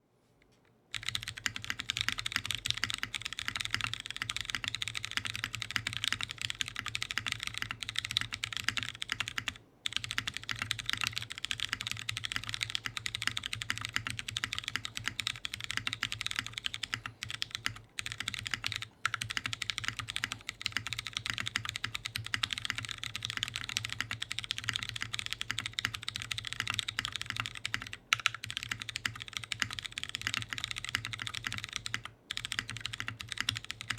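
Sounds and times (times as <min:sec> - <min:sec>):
fast typing on mechanical keyboard: 0:00.9 - 0:33.9.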